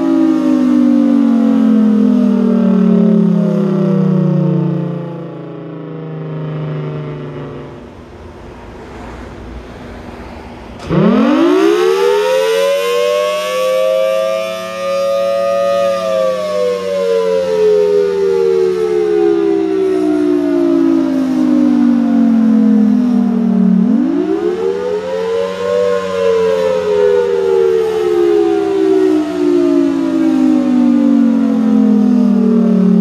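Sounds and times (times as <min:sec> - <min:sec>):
civil defense siren wailing: 0:00.0 - 0:09.2, 0:10.0 - 0:33.0.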